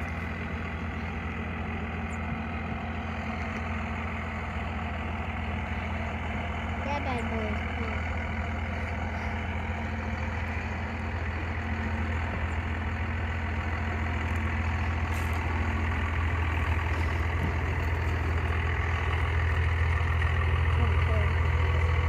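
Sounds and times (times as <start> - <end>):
truck engine low hum: 0.0 - 22.0.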